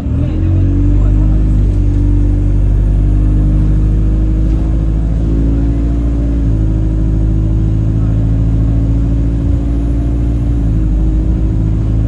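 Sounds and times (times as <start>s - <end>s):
bus engine rumble: 0.0s - 12.0s
steady droning tone: 2.2s - 12.0s.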